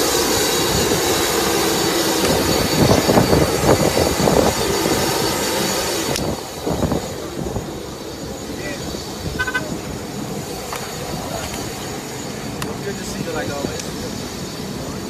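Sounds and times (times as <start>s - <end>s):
high engine whine: 0.0s - 15.0s
jet engine running: 0.0s - 15.0s.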